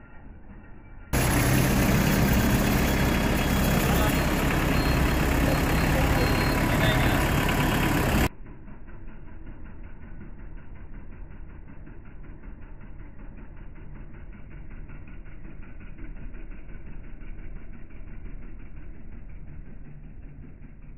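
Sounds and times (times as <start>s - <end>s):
diesel tractor engine idling: 1.2s - 20.9s.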